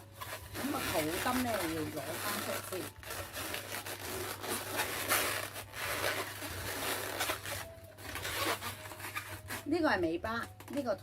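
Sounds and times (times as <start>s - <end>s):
balloons squeaking and rubbing: 0.0s - 10.9s.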